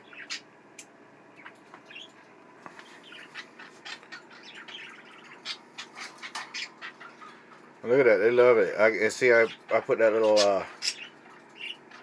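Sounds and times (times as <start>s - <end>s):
budgerigars chirping: 0.0s - 2.2s, 2.8s - 7.7s, 8.7s - 12.0s.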